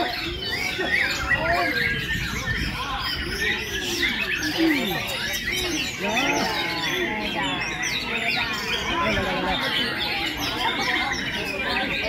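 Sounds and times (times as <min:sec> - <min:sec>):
people talking: 0:00.0 - 0:12.0
songbirds singing: 0:00.0 - 0:12.0.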